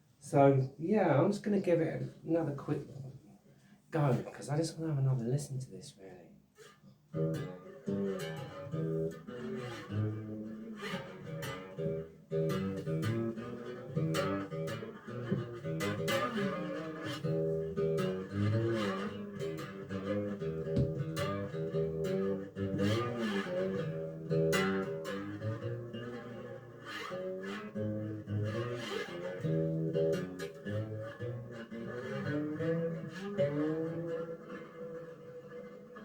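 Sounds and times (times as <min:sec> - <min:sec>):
plucked sliding string notes: 0:06.6 - 0:36.0.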